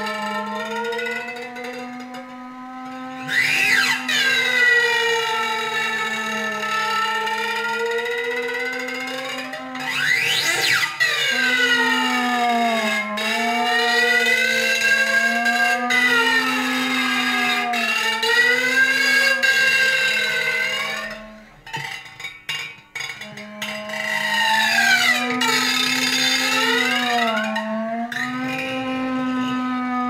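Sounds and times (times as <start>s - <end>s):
low wind instrument drone: 0.0s - 21.6s, 23.1s - 30.0s
wind instrument sputters: 0.0s - 30.0s.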